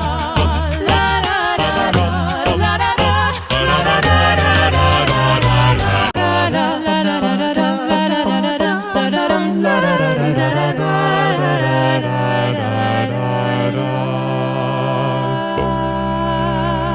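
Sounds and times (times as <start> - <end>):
voices singing in harmony: 0.0 - 16.9.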